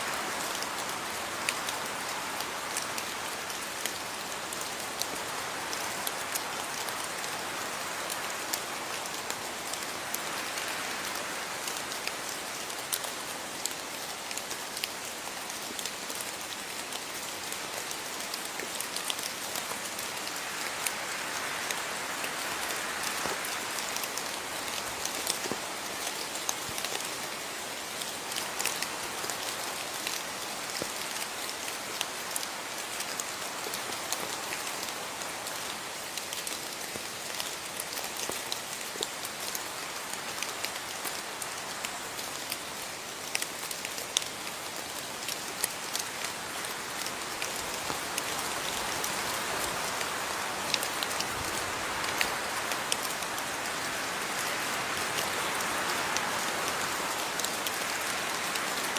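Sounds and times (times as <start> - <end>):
rain drops ticking on hard surface: 0.0 - 58.9.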